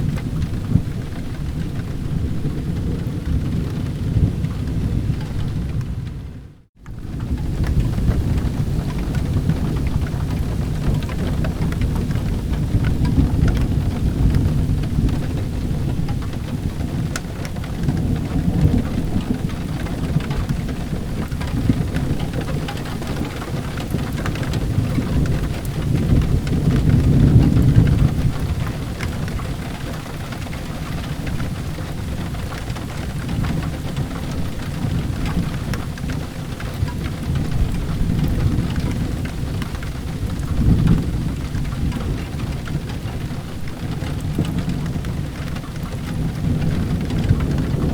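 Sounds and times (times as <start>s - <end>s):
heavy rain: 0.0s - 47.9s
rolling thunder: 0.0s - 47.9s.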